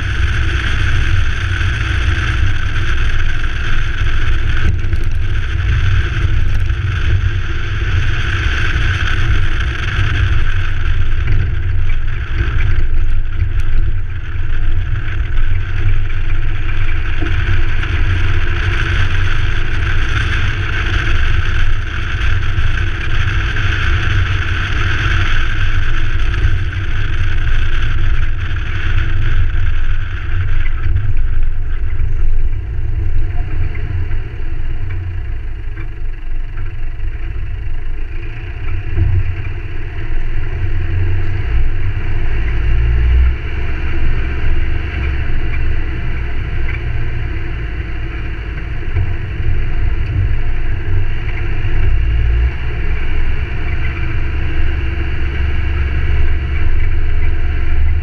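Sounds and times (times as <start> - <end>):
vehicle rumble on dirt track: 0.0 - 58.0.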